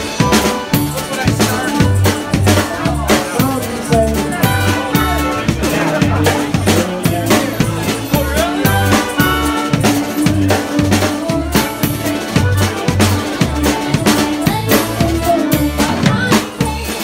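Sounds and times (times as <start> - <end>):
live band playing a song: 0.0 - 17.0.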